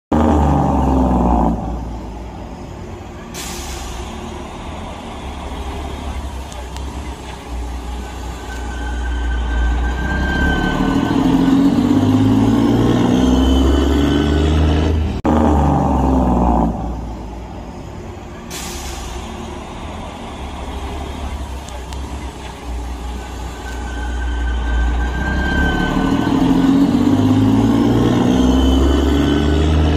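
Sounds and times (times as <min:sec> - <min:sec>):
diesel truck engine rumbling: 0:00.1 - 0:29.9.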